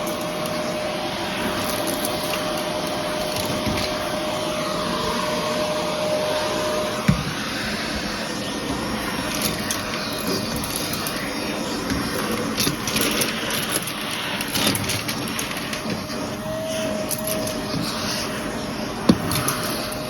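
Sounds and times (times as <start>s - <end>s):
faint motor whine: 0.0s - 20.0s
vacuum cleaner running: 0.0s - 20.0s.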